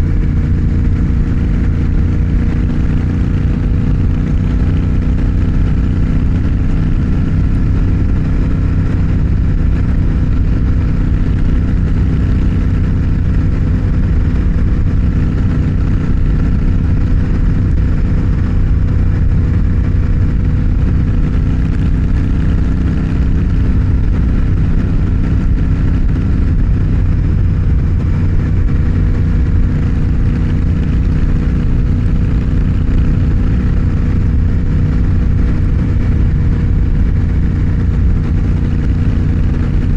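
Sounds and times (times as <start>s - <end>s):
constant low rumble: 0.0s - 39.9s
motorcycle engine running: 0.0s - 39.9s.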